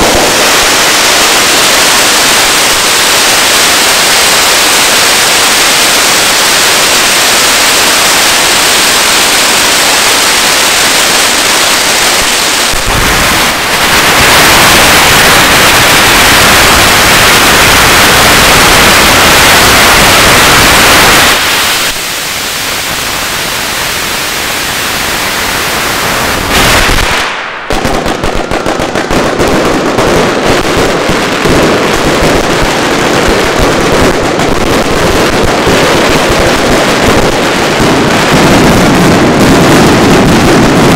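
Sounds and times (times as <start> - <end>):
firecrackers crackling rapidly: 0.0 - 40.9.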